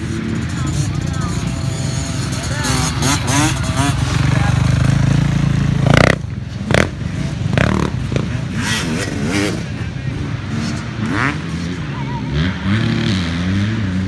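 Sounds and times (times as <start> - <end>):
voices talking: 0.0 - 13.2
dirt bike engines revving: 0.0 - 14.0.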